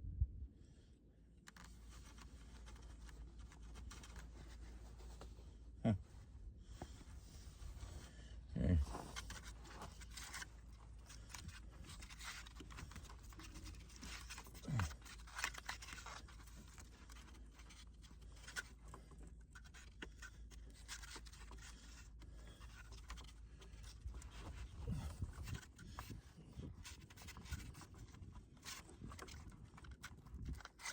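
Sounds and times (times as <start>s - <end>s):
scraping and rustling on plastic pipe: 1.4s - 30.9s.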